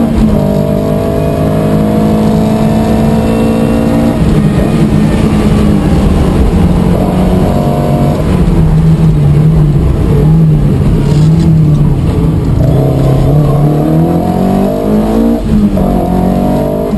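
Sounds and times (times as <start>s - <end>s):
rally car engine revving: 0.0s - 16.9s.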